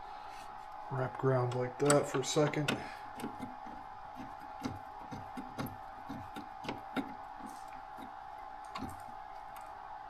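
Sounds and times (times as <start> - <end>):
faint steady hum: 0.0 - 10.0
cable wires knocking and clicking: 1.1 - 9.8.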